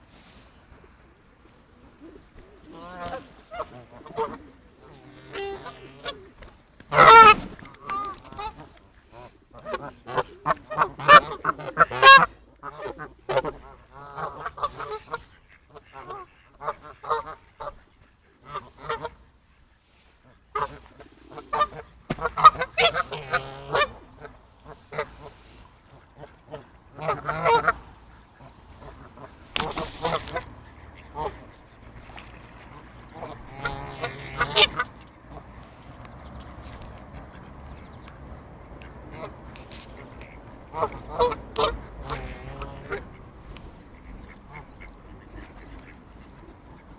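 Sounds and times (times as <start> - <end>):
geese honking: 2.1 - 19.2, 20.5 - 35.8, 38.6 - 46.9.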